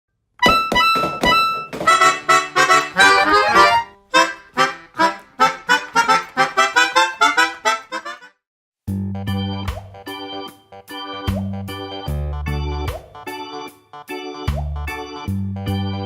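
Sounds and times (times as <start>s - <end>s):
bouncy instrumental jingle: 0.4s - 16.0s.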